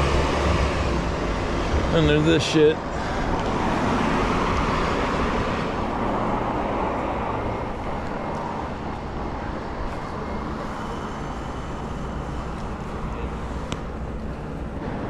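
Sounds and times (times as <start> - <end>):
steady traffic noise: 0.0 - 15.0.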